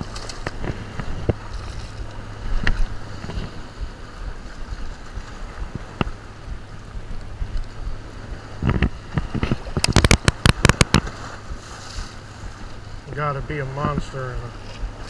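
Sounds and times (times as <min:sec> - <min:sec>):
water lapping: 0:00.0 - 0:15.0
wind on microphone: 0:00.0 - 0:15.0.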